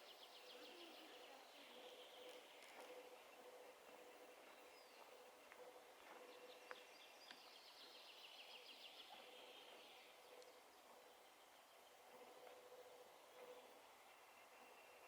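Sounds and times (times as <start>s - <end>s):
bird chirps: 0.0s - 15.0s
faint forest ambience: 0.0s - 15.0s
songbird trill: 0.0s - 15.0s.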